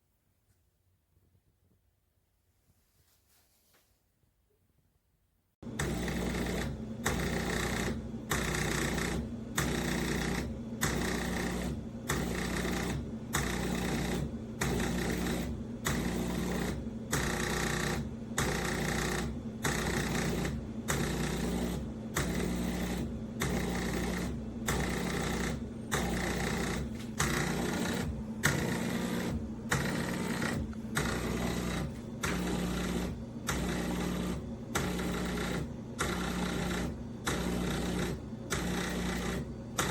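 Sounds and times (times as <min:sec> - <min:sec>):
espresso machine pulsing hum: 0:05.6 - 0:39.9.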